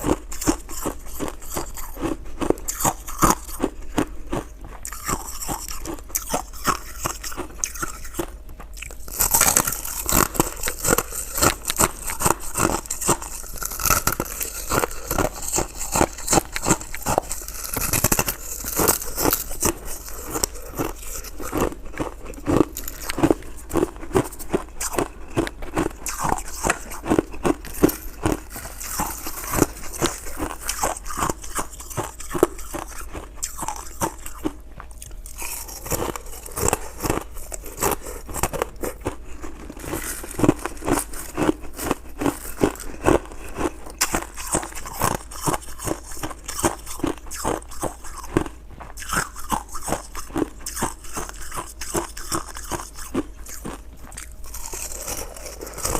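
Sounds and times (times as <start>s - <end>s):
person crunching ice: 0.0s - 55.9s.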